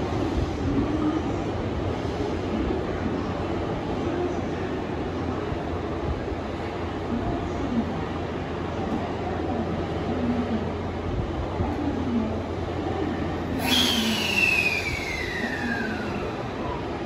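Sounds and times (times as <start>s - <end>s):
electric train low hum: 0.0s - 17.0s.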